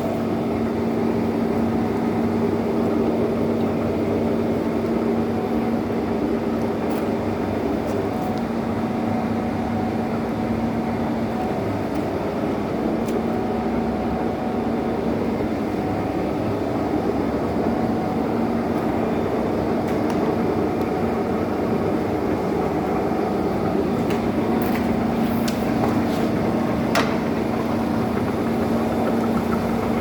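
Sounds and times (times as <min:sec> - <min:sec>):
lathe gearing hum: 0:00.0 - 0:30.0.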